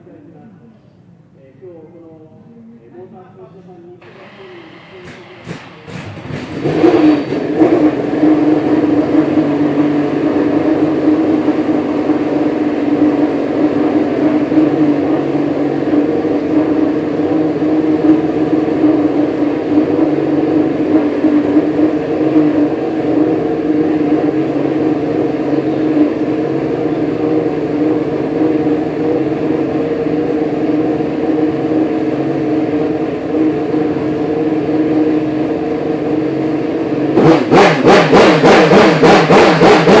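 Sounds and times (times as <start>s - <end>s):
racing engine droning: 4.0s - 40.0s.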